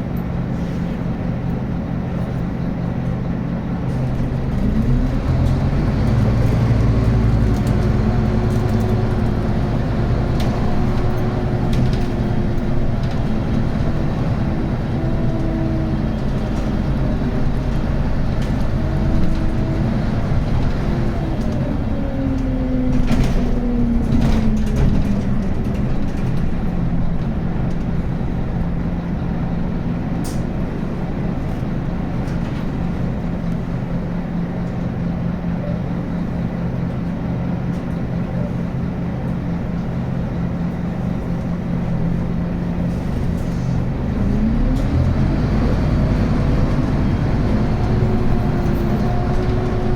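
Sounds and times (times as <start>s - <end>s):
bus engine drone: 0.0s - 49.9s.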